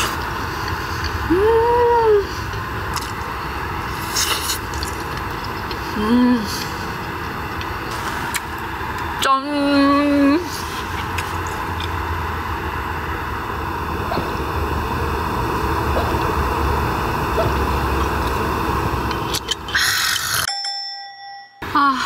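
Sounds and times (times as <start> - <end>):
fan heater humming and whirring: 0.0 - 20.5.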